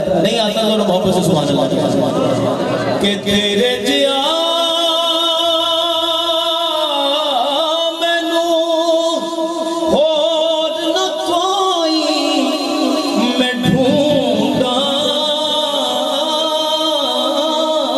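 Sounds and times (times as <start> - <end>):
man singing long notes: 2.1 - 17.9.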